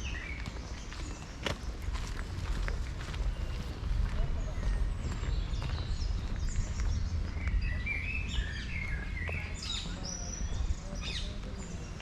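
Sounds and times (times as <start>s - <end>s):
songbirds chirping and whistling: 0.0s - 12.0s
wind rumble on microphone: 0.0s - 12.0s.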